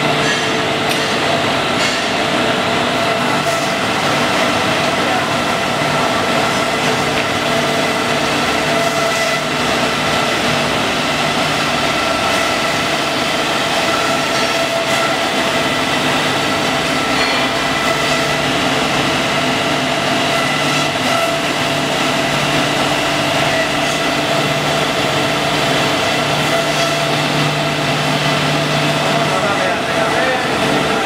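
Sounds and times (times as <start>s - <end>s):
belt grinding machine running: 0.0s - 31.0s
machine whining tones: 2.7s - 31.0s.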